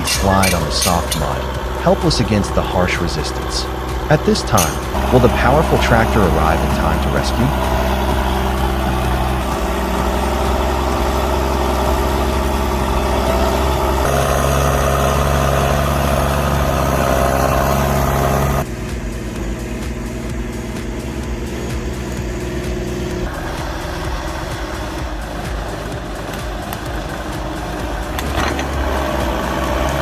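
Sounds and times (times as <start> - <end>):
heavy diesel engine running: 0.0 - 30.0
pulsing engine sound: 0.0 - 30.0.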